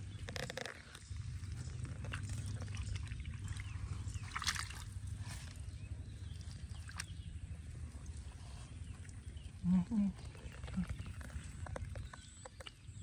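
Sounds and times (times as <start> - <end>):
hands squelching through wet mud: 0.0 - 13.0
low steady rumble: 0.0 - 13.0
water splashes: 0.4 - 13.0.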